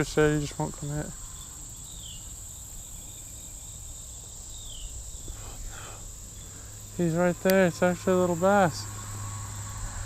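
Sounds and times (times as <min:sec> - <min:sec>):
insects chorusing drone: 0:00.0 - 0:10.0.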